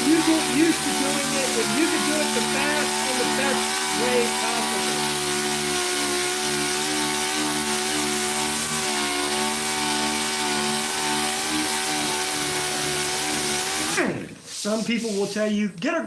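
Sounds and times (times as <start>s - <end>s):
sander whirring with hiss: 0.0s - 15.6s.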